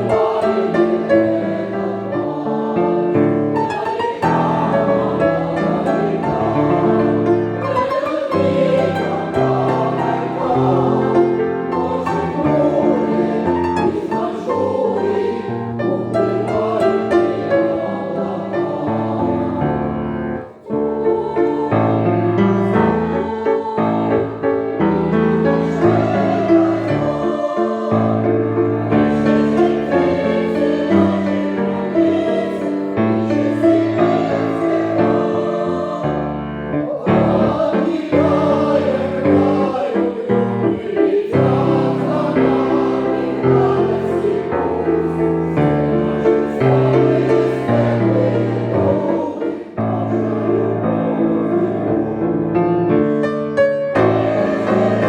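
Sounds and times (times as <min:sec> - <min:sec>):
choir singing: 0:00.0 - 0:55.0
piano accompaniment: 0:00.0 - 0:55.0.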